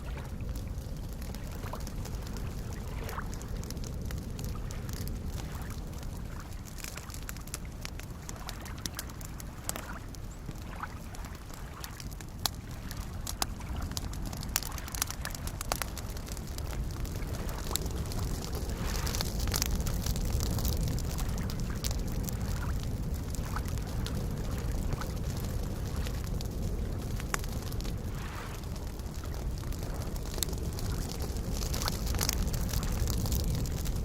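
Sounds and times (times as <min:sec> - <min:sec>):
lake waves lapping: 0:00.0 - 0:03.8, 0:04.4 - 0:21.8, 0:22.5 - 0:33.0
wood fire crackling and popping: 0:00.0 - 0:34.0.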